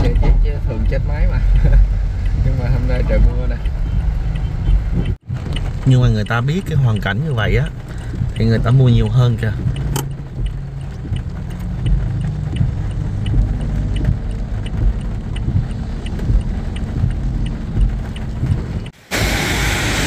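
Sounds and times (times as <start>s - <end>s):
faint regular ticking: 0.0s - 19.0s
car engine running: 0.0s - 20.0s
windshield wipers working: 0.0s - 20.0s
heavy rain on car: 0.1s - 20.0s
hissing outdoor noise: 1.1s - 20.0s.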